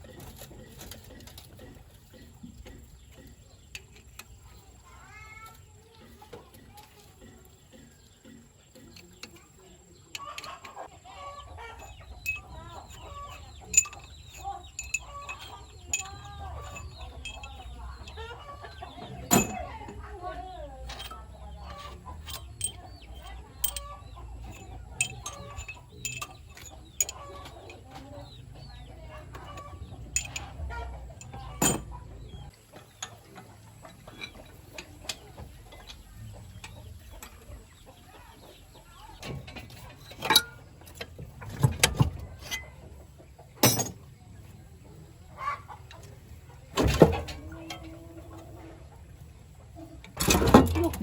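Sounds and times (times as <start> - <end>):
chickens clucking: 0.0 - 51.0.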